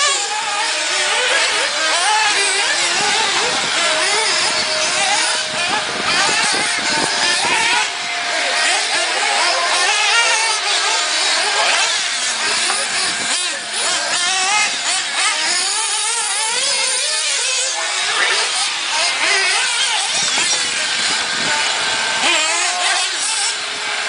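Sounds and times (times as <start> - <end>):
high-pitched rc car motors: 0.0 - 24.0.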